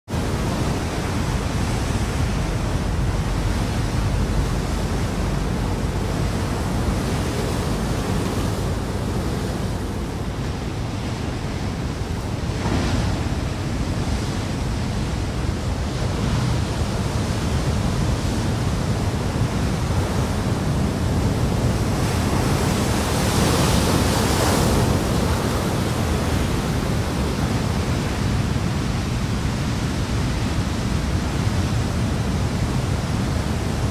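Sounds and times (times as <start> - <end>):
surf breaking on rocky shore: 0.2 - 33.9.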